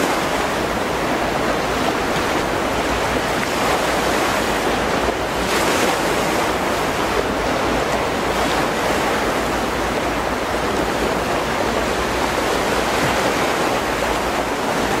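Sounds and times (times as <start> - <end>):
choppy sea water: 0.0 - 15.0.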